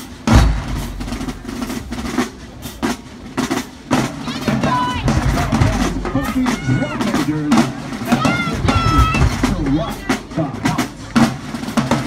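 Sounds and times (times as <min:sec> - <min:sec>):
drumline playing a cadence: 0:00.0 - 0:12.0
voices calling out: 0:00.3 - 0:12.0.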